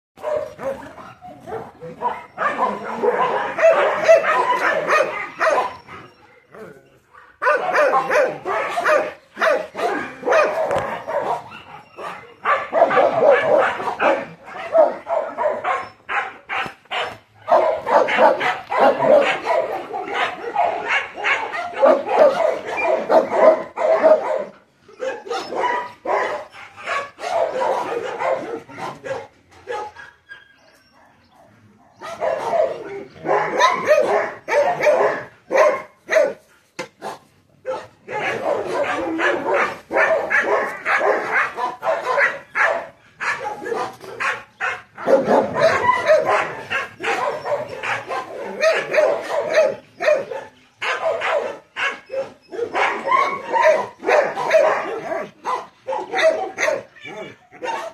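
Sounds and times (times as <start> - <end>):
dog barking and whining: 0.2 - 57.9.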